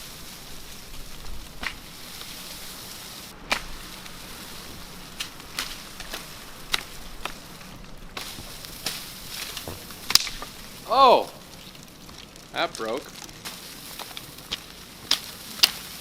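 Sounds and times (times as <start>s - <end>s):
stick knocking on branches: 0.0s - 16.0s.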